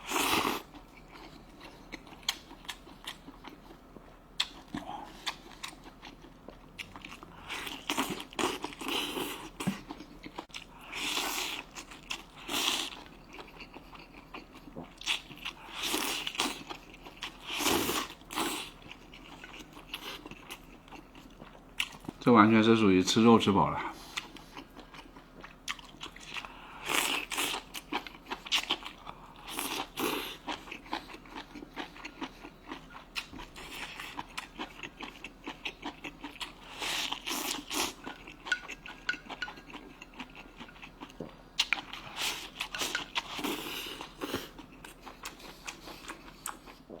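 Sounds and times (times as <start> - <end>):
person chewing food: 0.0 - 22.2, 23.9 - 47.0.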